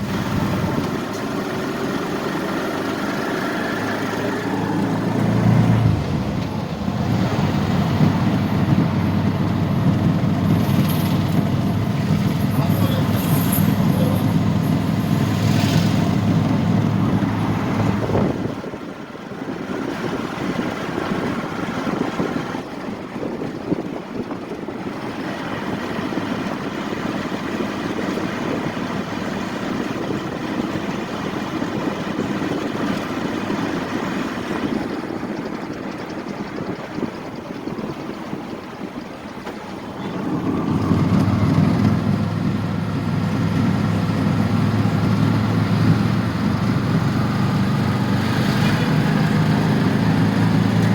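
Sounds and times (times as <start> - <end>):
traffic rumble and hiss: 0.0 - 50.9
vehicle engine rumbling: 0.0 - 50.9.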